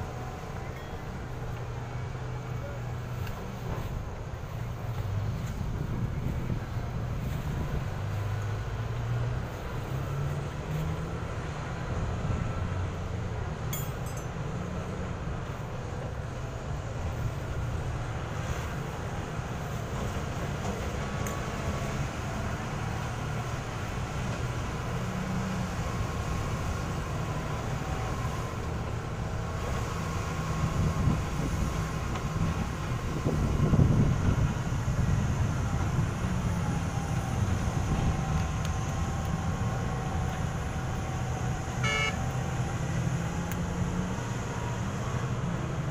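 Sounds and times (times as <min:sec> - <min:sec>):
heavy diesel engine rumbling: 0:00.0 - 0:45.9.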